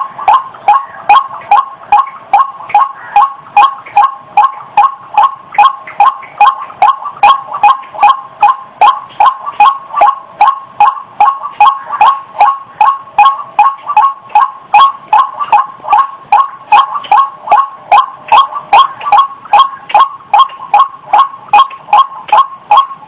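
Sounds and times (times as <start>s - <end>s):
waterhen croaking calls: 0.0s - 23.0s.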